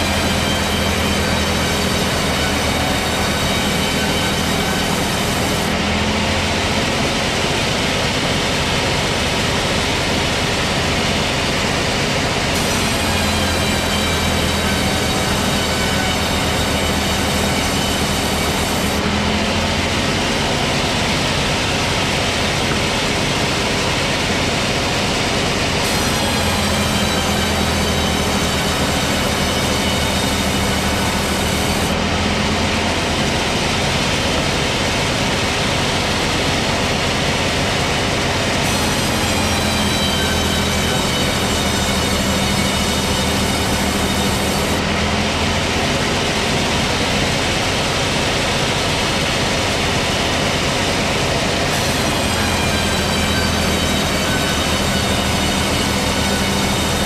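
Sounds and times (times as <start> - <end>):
chainsaw cutting: 0.0 - 9.8, 12.5 - 57.0.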